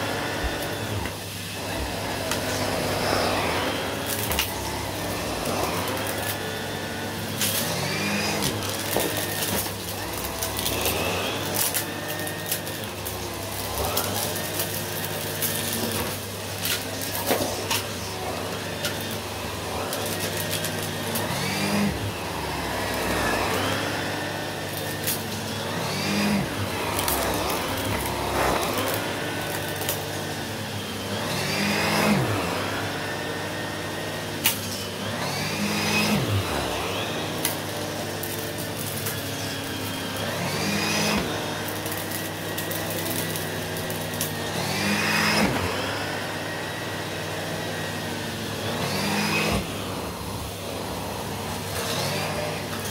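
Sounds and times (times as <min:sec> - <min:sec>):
vacuum cleaner motor drone: 0:00.0 - 0:52.9.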